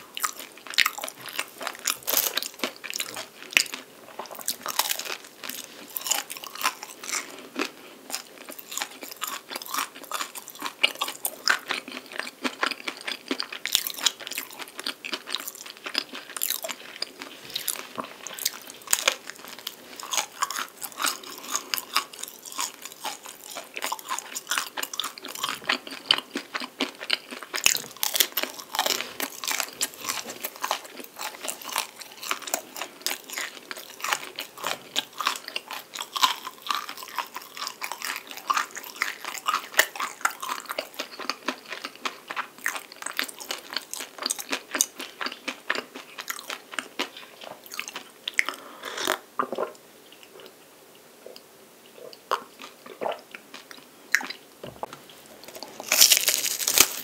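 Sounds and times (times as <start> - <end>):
crunchy pastry chewing: 0.0 - 49.3, 52.0 - 54.4, 55.2 - 57.0.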